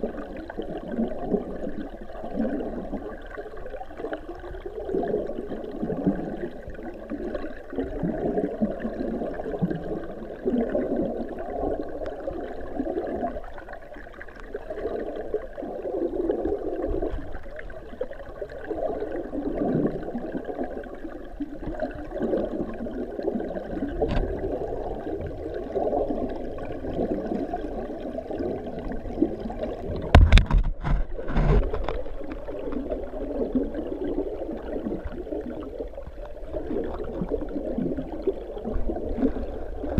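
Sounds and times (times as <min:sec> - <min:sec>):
water churning underwater: 0:00.0 - 0:39.9.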